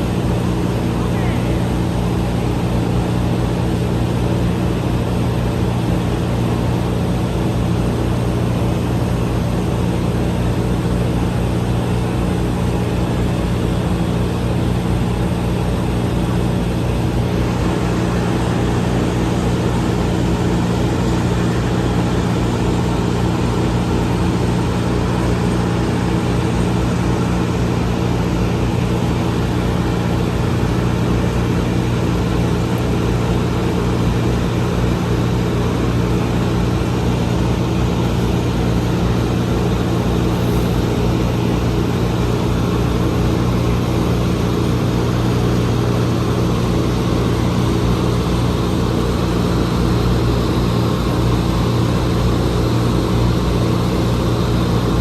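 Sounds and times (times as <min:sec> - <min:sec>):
large engine droning: 0:00.0 - 0:55.0.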